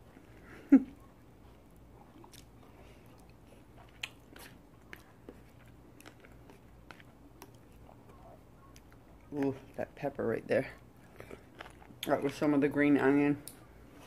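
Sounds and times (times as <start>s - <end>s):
person chewing food: 0.0s - 12.7s.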